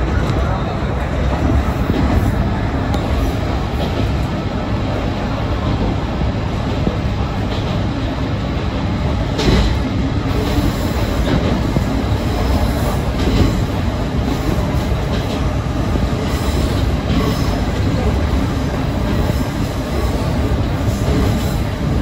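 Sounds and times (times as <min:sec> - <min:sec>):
railcar low rumble: 0:00.0 - 0:22.0.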